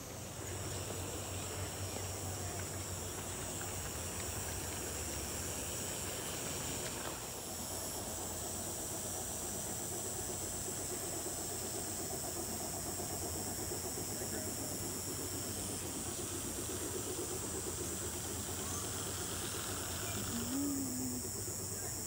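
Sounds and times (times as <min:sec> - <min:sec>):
high-pitched hiss: 0:00.0 - 0:22.0
model train wheels and motor rumbling: 0:00.0 - 0:22.0.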